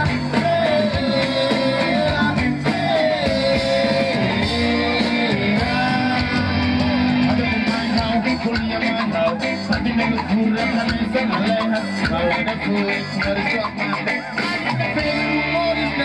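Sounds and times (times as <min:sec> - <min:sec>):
guitar: 0:00.0 - 0:16.0
person singing long notes: 0:00.0 - 0:16.0
steady beat: 0:00.0 - 0:16.0.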